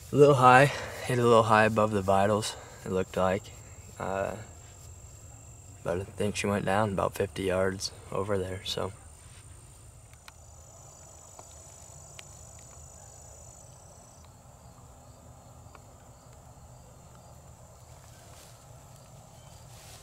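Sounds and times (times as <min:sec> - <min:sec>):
high-pitched insect whine: 0:00.0 - 0:07.1, 0:08.7 - 0:20.0
crickets chirping: 0:00.0 - 0:20.0.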